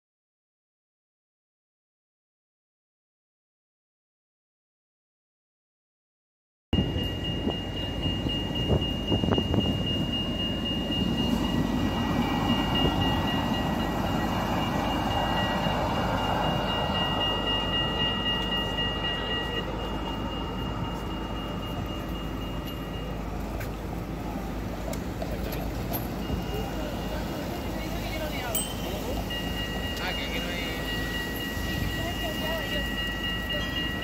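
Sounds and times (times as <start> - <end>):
tram rolling rumble: 6.8 - 34.0.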